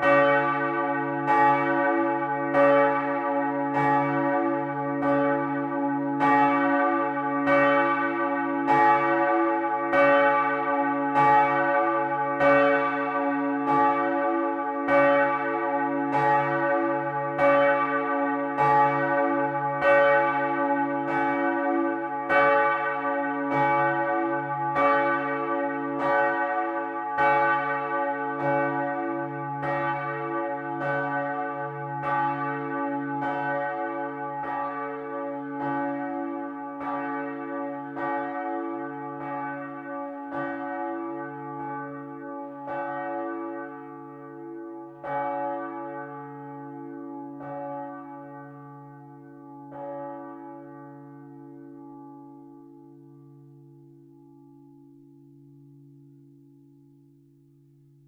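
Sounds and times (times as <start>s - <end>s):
large church bell ringing: 0.0s - 58.0s.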